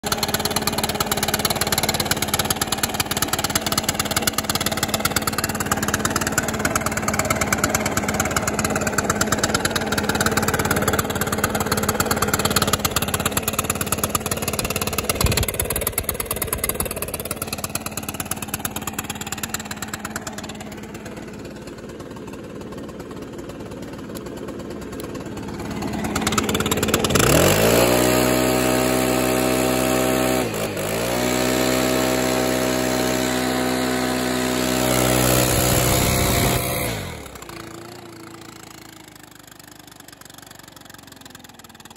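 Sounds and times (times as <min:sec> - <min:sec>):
leaf blower engine running: 0:00.0 - 0:41.9.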